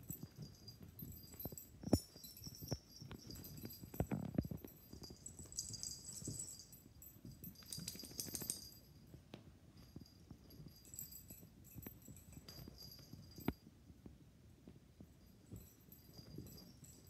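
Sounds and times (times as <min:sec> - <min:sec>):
collar tags jingling: 0:00.0 - 0:13.8, 0:15.0 - 0:17.0.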